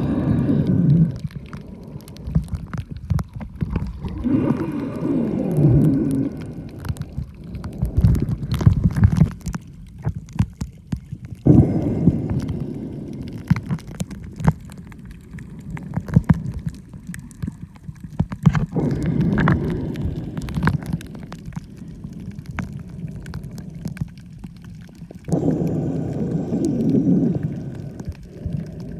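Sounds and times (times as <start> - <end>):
sharp clicks and crackles: 0.0 - 28.9
water rushing and gurgling: 0.0 - 28.9.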